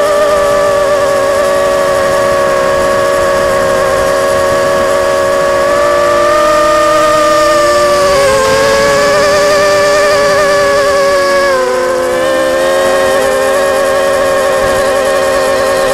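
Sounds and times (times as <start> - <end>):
model aircraft motors whining: 0.0 - 15.9.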